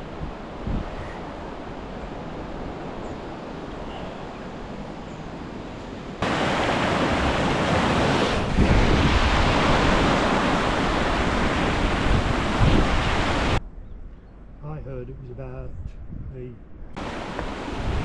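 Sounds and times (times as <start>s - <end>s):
rushing floodwater: 0.0s - 13.6s, 17.0s - 18.0s
wind buffeting microphone: 0.0s - 14.8s, 15.4s - 18.0s.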